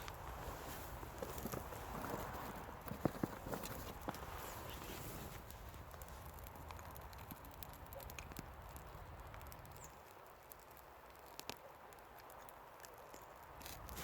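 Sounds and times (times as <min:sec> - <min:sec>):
faint ticks and rustles: 0:00.0 - 0:14.0.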